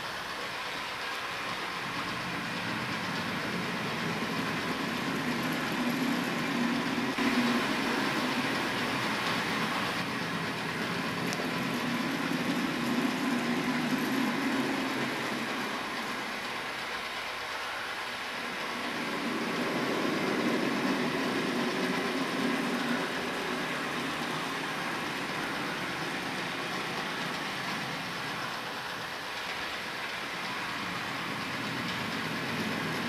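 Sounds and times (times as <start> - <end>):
drawing machine mechanical whirr: 0.0 - 33.0.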